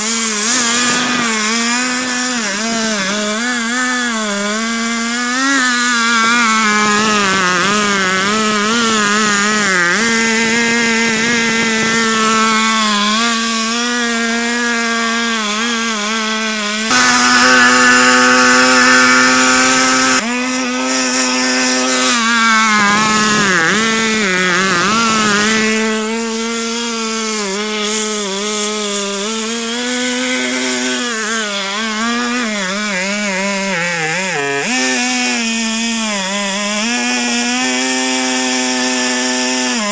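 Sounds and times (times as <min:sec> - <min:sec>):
chainsaw ripping a log: 0:00.0 - 0:39.9.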